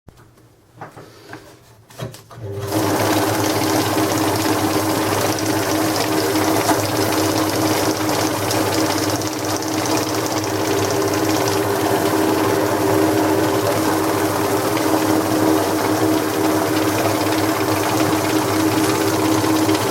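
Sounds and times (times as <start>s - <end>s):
banknote counter whirring: 2.5s - 19.9s.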